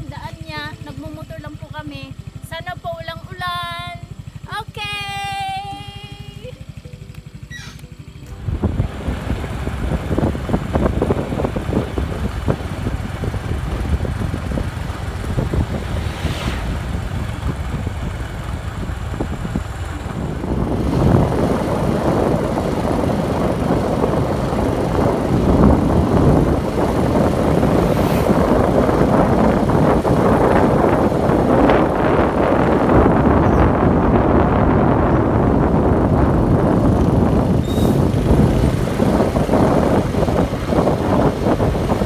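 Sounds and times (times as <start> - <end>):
motor scooter running: 0.0 - 42.0
wind on microphone: 8.3 - 42.0.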